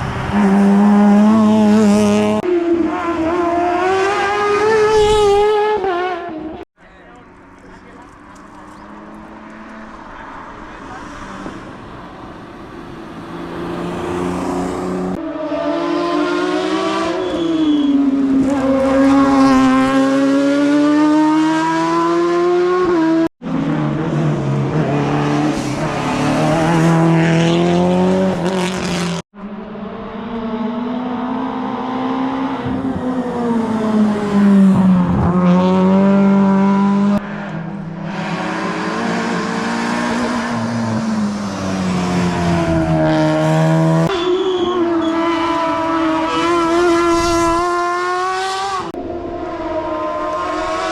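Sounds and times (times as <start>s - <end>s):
rally car engines revving hard: 0.0s - 6.6s, 7.6s - 50.9s.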